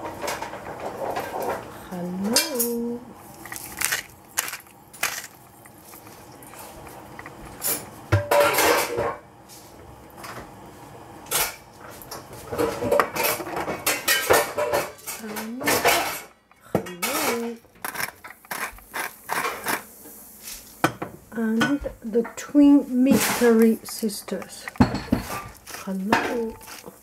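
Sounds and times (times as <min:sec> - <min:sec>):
metal pots and utensils clinking: 0:00.0 - 0:09.2, 0:11.3 - 0:19.8, 0:20.8 - 0:27.0.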